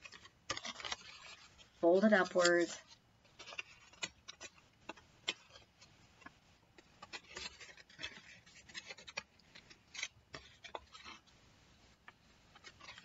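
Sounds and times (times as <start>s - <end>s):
paper plate rustling: 0.0s - 13.0s.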